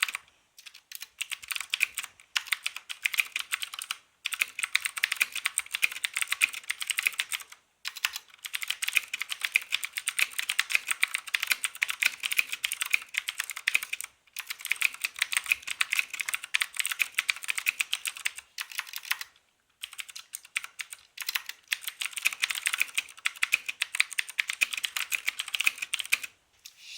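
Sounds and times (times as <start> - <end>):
mechanical keyboard typing: 0.0 - 26.3.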